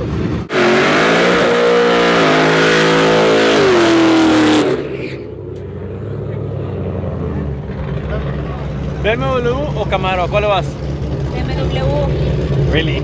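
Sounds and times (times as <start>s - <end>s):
racing car engine at full throttle: 0.0s - 13.0s.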